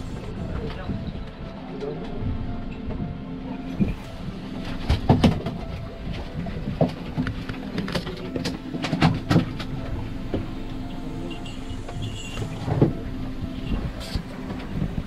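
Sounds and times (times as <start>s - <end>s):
boat machinery humming: 0.0s - 15.0s.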